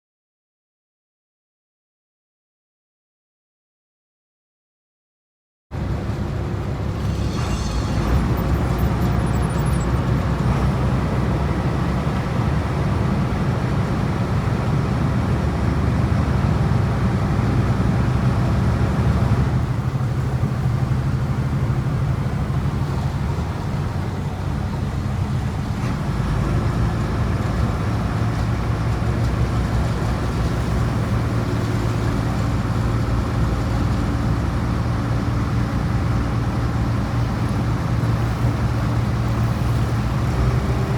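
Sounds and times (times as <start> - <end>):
boat engine droning: 5.8 - 40.9
water washing along hull: 8.0 - 40.9.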